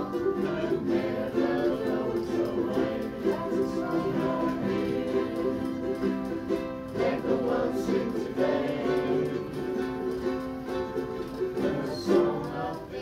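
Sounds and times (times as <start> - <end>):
ukuleles strumming chords: 0.0 - 13.0
voices singing along: 0.0 - 13.0.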